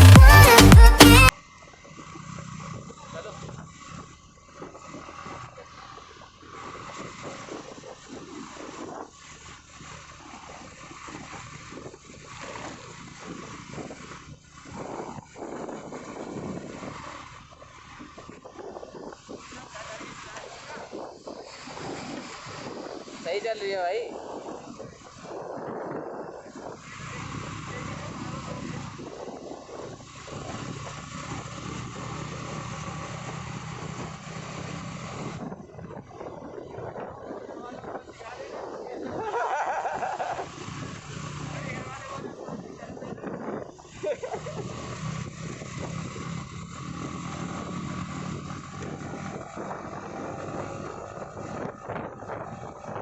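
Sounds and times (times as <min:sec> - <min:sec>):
motorcycle engine running: 0:00.0 - 0:53.0
wind buffeting microphone: 0:02.6 - 0:53.0.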